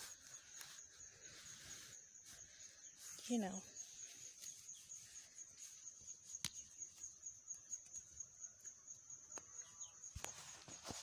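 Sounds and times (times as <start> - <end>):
faint insect trilling: 0.0 - 10.9.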